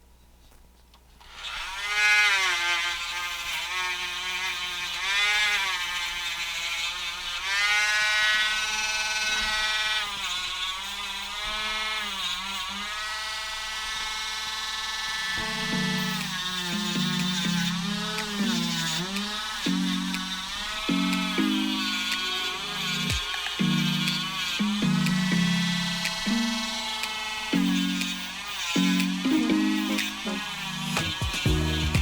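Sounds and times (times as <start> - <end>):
rotary tool whining: 1.2 - 32.0.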